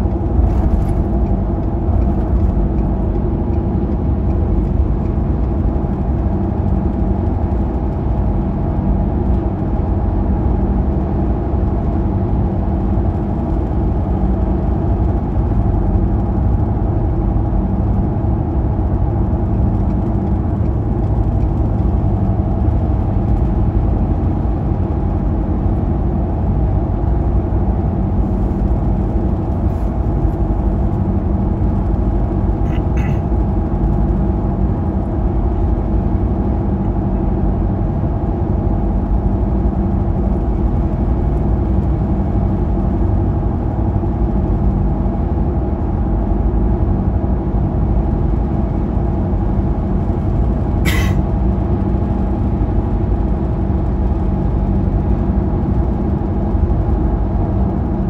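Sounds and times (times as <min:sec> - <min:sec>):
car road and engine drone: 0:00.0 - 0:58.0.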